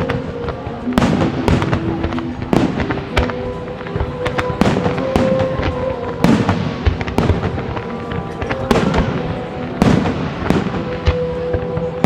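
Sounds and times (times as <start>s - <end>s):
fireworks bangs and crackles: 0.0s - 12.0s
music on loudspeakers: 0.0s - 12.0s.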